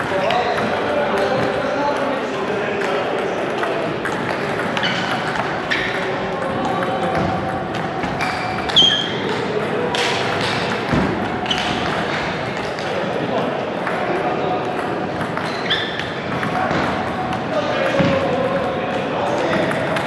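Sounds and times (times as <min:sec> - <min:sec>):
murmur of voices: 0:00.0 - 0:20.0.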